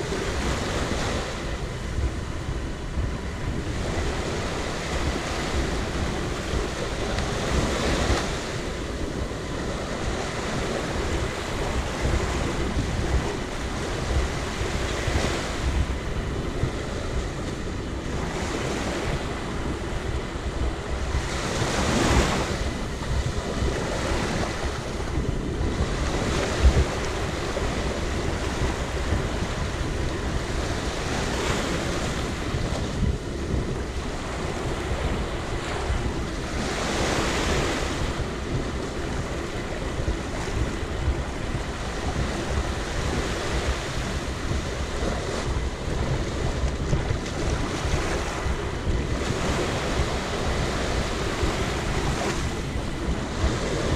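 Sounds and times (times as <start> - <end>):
small waves breaking on shore: 0.0 - 53.9
wind rumbling on microphone: 0.0 - 53.9.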